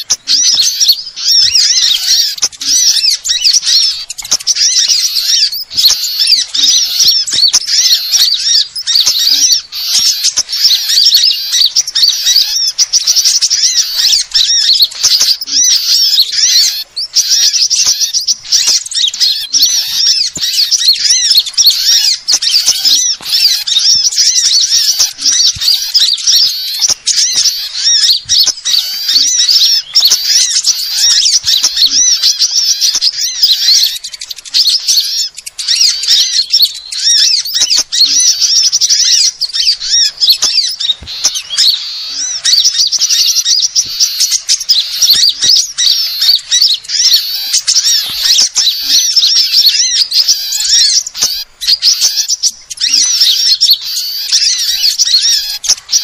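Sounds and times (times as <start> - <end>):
small birds twittering: 0.0 - 56.0.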